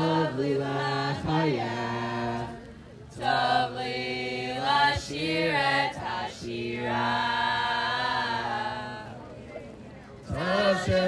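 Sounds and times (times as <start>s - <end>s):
large group singing slowly: 0.0s - 9.6s, 10.2s - 11.0s.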